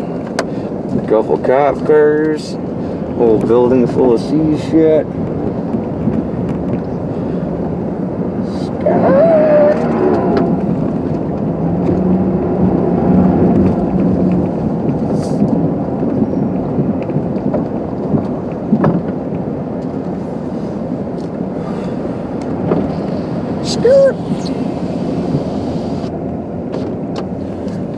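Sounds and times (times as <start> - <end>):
car engine and road noise: 0.0 - 27.9.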